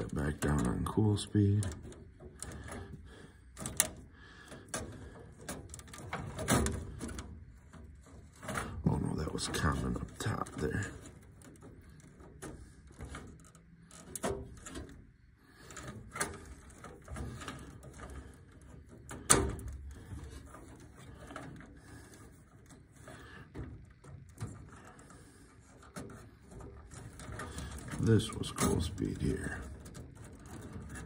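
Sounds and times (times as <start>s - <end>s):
wires rustling: 0.0s - 31.0s.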